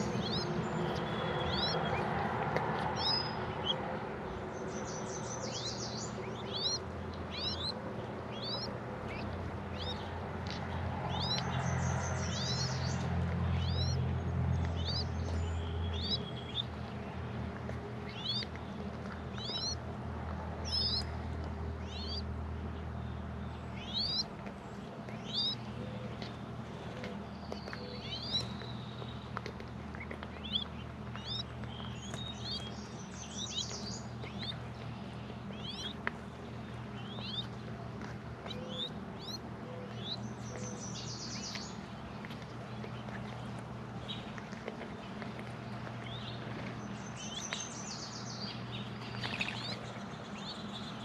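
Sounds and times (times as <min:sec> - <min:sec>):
bird chirping: 0:00.0 - 0:02.2, 0:02.8 - 0:17.3, 0:18.0 - 0:19.8, 0:20.6 - 0:21.1, 0:21.8 - 0:51.0
low steady rumble: 0:00.0 - 0:51.0.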